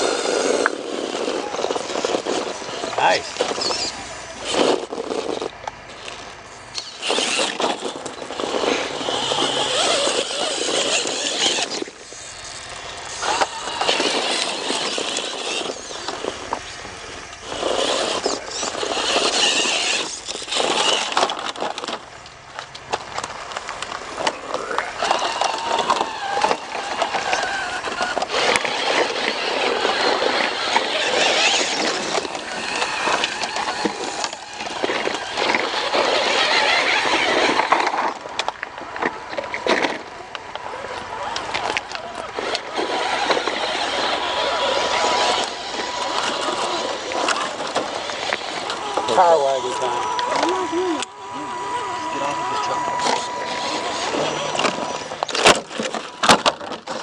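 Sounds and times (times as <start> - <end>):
electric motor and gears whining: 0.0 - 57.0
gritty scrabbling over rock: 0.0 - 57.0.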